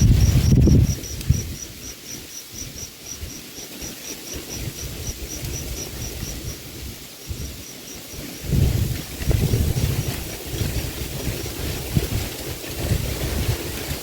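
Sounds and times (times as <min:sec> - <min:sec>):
cricket chirping: 0:00.0 - 0:14.0
wind rumble on microphone: 0:00.0 - 0:14.0.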